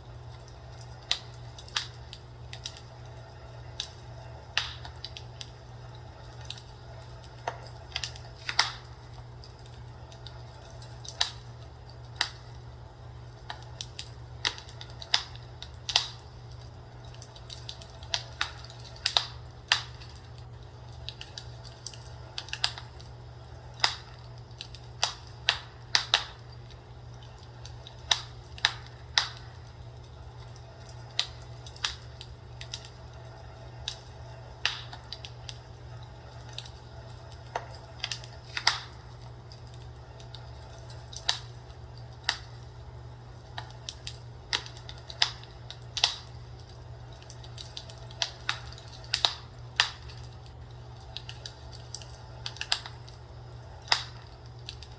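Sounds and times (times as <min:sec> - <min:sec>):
fireplace fire crackling: 0:00.0 - 0:54.9
steady low hum: 0:00.0 - 0:54.9.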